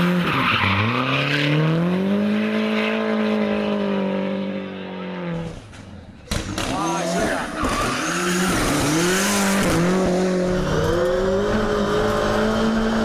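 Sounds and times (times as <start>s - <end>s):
rally car engine revving: 0.0s - 5.7s, 6.3s - 13.0s.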